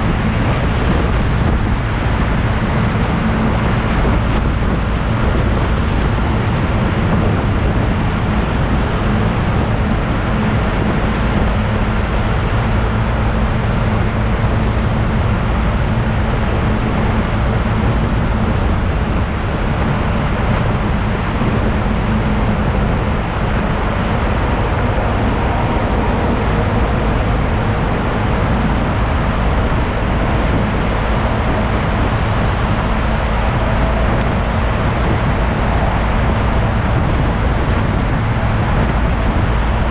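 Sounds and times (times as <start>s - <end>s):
wind rush and road noise: 0.0s - 39.9s.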